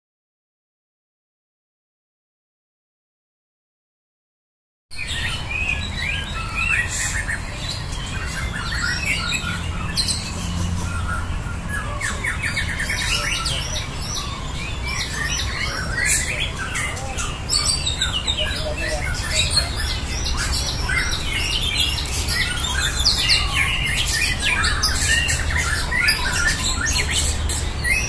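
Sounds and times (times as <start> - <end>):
songbirds singing and trilling: 4.9 - 28.0.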